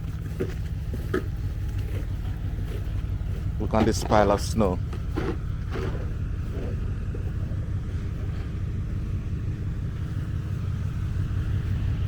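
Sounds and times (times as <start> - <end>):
faint engine hum: 0.0 - 12.0
road traffic rumble: 0.0 - 12.0.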